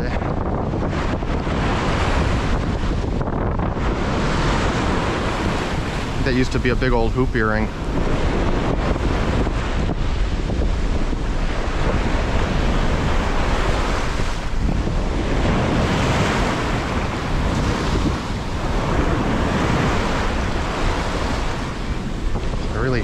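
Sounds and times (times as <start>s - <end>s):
ocean surf washing on sand: 0.0s - 23.0s
wind buffeting microphone: 0.0s - 23.0s.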